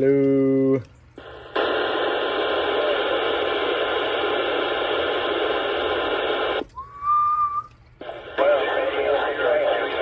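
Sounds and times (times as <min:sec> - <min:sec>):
radio static hiss: 0:00.5 - 0:06.7, 0:08.0 - 0:10.0.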